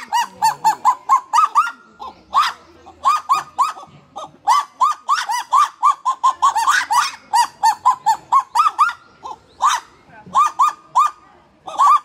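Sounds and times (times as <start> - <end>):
bird calling in rapid notes: 0.0 - 12.0.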